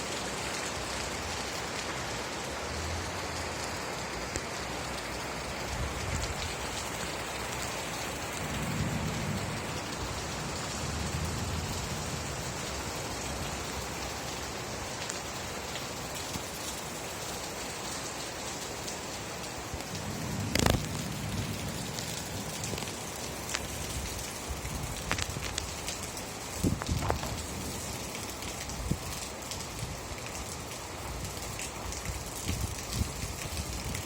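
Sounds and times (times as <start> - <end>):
rain pattering: 0.0 - 34.0
raindrops ticking: 0.2 - 34.0.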